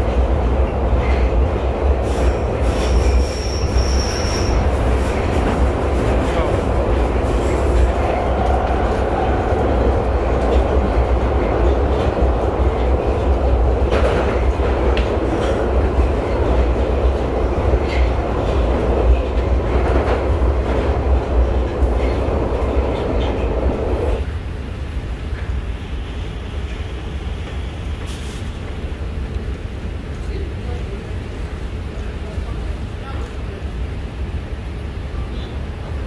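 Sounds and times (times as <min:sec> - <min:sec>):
underground train rumble and rattle: 0:00.0 - 0:36.0.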